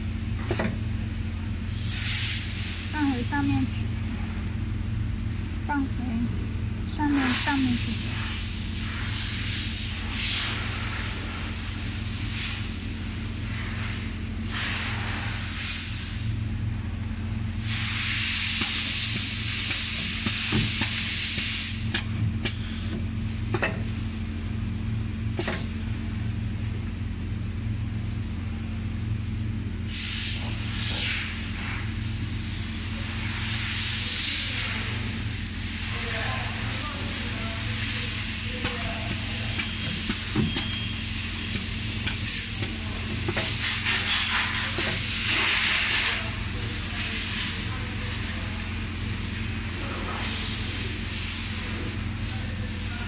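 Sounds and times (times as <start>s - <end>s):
machinery low hum: 0.0s - 53.0s.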